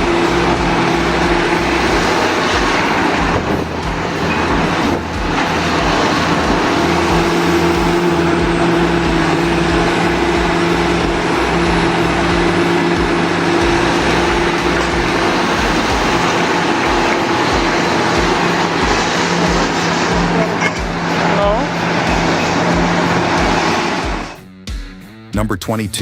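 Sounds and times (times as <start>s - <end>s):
diesel engine humming: 0.0s - 24.6s.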